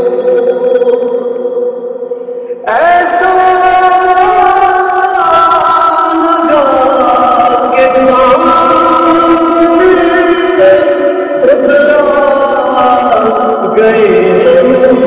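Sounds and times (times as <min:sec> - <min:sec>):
man singing: 0:00.0 - 0:01.4, 0:02.5 - 0:15.0.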